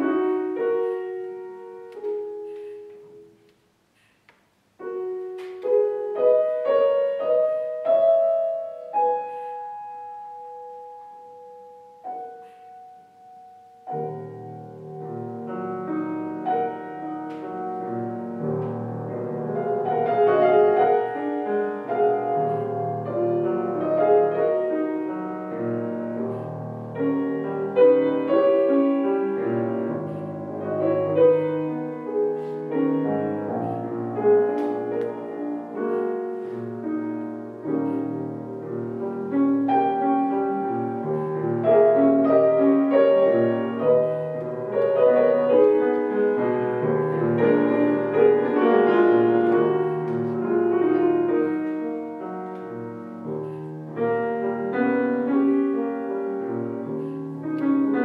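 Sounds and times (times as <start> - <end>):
classical grand piano: 0.0 - 58.0.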